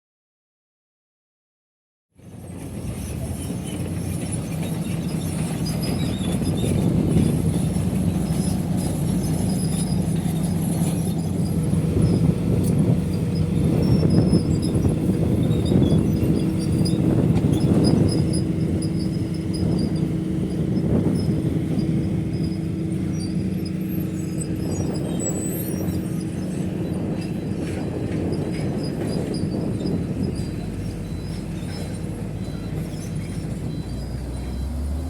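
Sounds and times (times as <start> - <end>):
heavy machinery diesel engine: 2.2 - 35.0
short high squeaks: 3.1 - 35.0.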